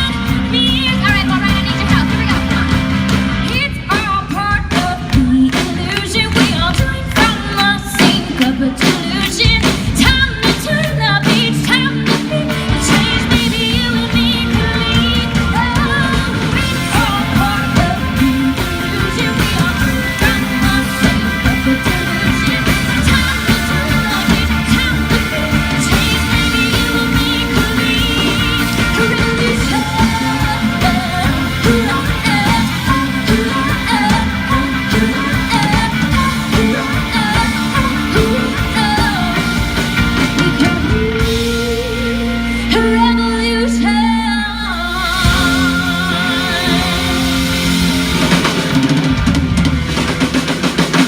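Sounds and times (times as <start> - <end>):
amplified rock band music: 0.0 - 51.0.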